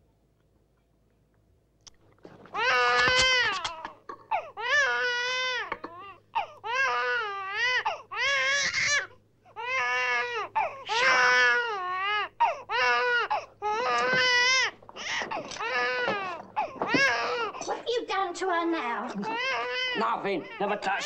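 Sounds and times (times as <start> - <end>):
baby crying: 2.4 - 17.8, 19.1 - 21.0.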